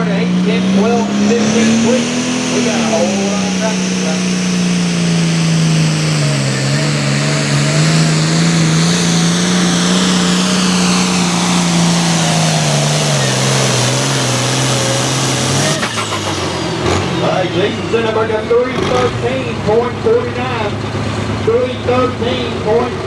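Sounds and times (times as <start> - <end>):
tractor diesel engine at high revs: 0.0 - 23.0.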